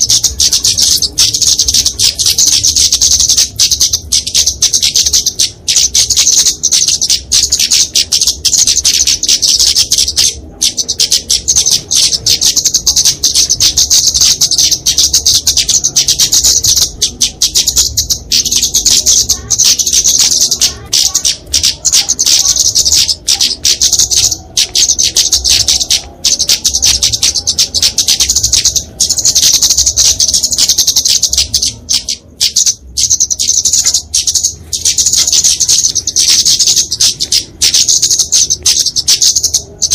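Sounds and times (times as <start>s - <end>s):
bird high-pitched chips: 0.0s - 39.9s.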